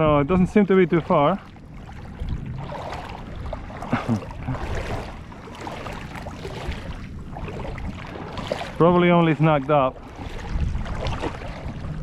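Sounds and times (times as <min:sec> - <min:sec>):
person wading through water: 0:00.0 - 0:12.0.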